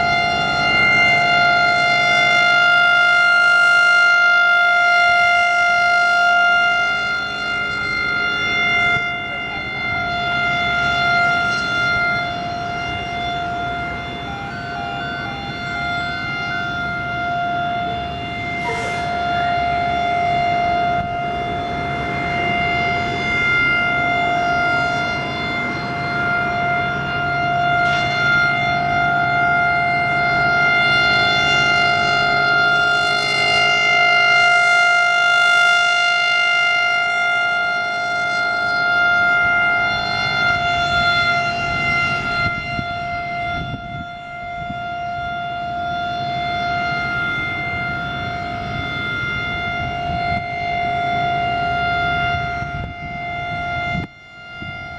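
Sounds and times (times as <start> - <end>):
steady warning siren: 0.0 - 54.9.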